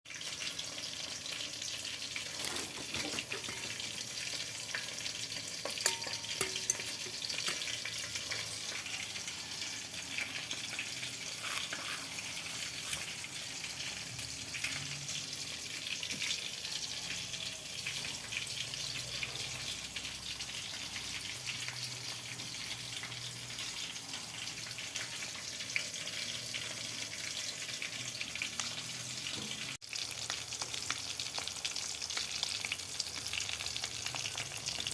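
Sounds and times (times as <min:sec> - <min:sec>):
food sizzling in hot oil: 0:00.1 - 0:34.9.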